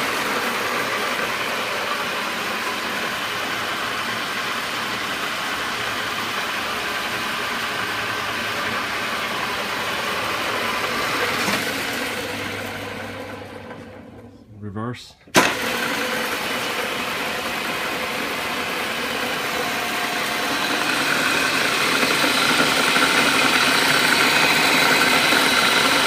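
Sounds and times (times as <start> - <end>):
drill press whirring: 0.0 - 14.4, 15.3 - 26.0.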